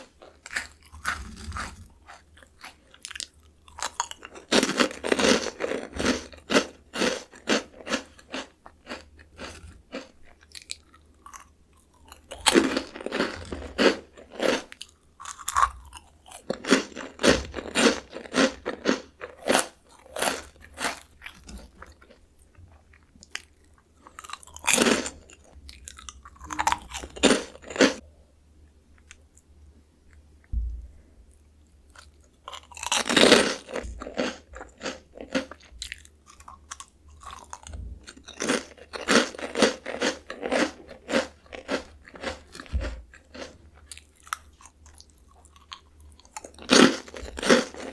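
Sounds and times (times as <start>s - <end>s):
crunching and chewing snack: 0.0s - 28.0s, 31.3s - 47.9s.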